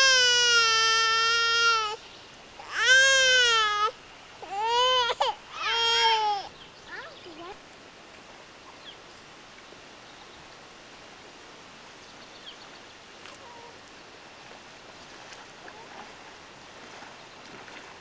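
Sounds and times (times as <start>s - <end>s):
outdoor ambient hiss: 0.0s - 18.0s.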